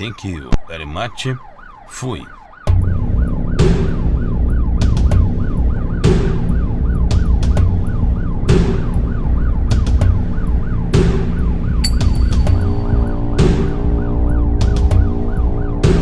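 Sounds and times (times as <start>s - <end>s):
electronic siren yelping: 0.0s - 16.0s
engine and road rumble: 2.4s - 16.0s.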